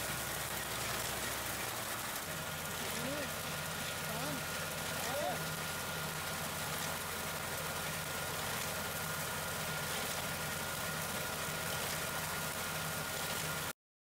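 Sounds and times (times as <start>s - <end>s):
thin steady whine: 0.0s - 13.7s
tractor diesel engine running: 0.0s - 13.7s.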